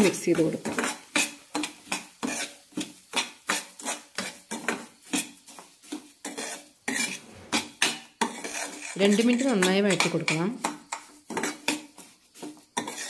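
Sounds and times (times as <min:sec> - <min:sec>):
metal spoon scraping a pan: 0:00.0 - 0:13.0.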